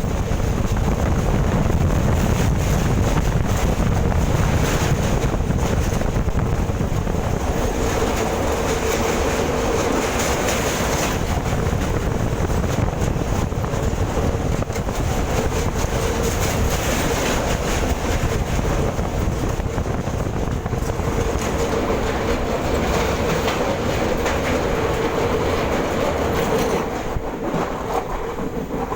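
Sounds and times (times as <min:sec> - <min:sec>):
train rumbling with wheel clatter: 0:00.0 - 0:28.9.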